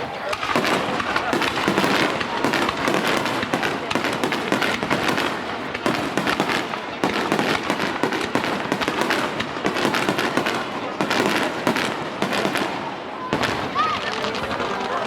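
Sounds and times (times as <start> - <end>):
fireworks crackling and popping: 0.0 - 15.0.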